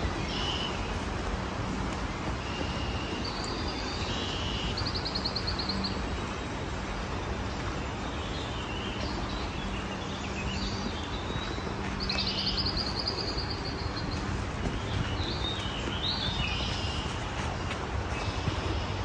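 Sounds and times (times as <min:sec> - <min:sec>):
wild birds singing: 0:02.4 - 0:19.0.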